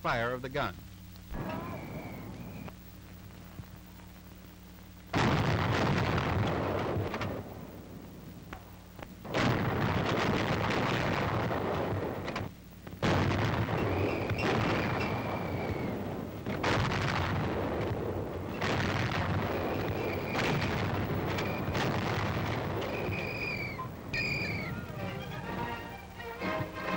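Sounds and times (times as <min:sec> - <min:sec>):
anti-aircraft gun blasts: 0:01.3 - 0:02.7, 0:05.1 - 0:07.8, 0:08.5 - 0:26.9.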